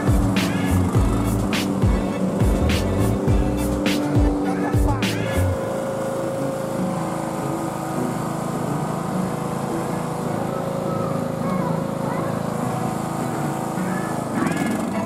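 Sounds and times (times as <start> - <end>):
riding lawn mower engine running: 0.0 - 15.0.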